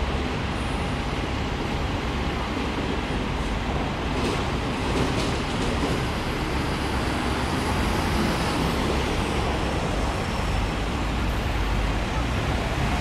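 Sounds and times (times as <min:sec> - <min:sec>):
bus engine rumbling: 0:00.0 - 0:13.0
road traffic: 0:00.0 - 0:13.0.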